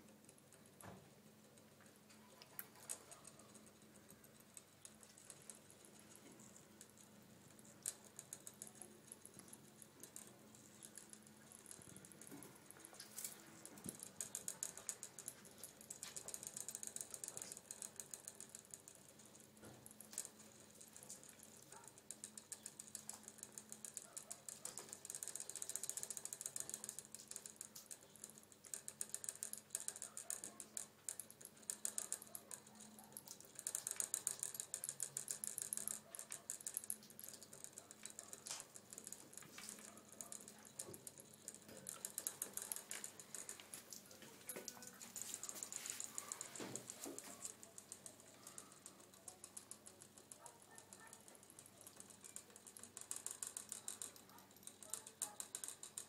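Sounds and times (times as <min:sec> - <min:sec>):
gerbil drinking from metal spout: 0:00.0 - 0:56.0.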